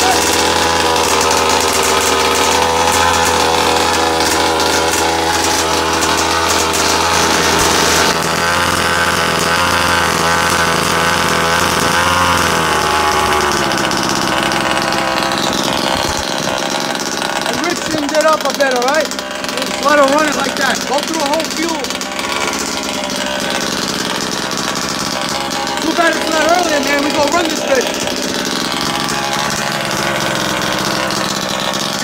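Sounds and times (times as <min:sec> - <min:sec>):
two-stroke engine running: 0:00.0 - 0:32.0.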